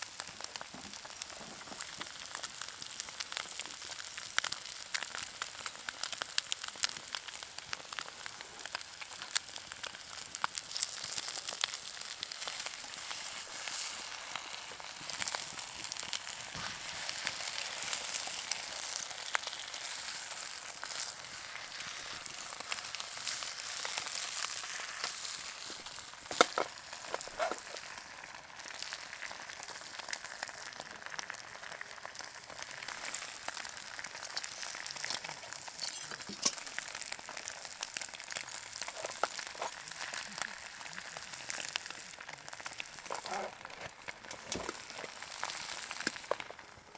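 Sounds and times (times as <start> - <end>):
food sizzling in a frying pan: 0.0 - 46.9.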